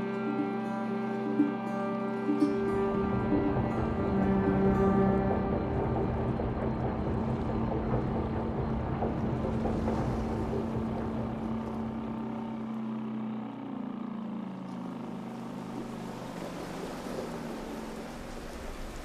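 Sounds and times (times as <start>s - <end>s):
boat engine droning: 0.0s - 19.0s
sea noise: 0.0s - 19.0s
wind: 0.0s - 19.0s.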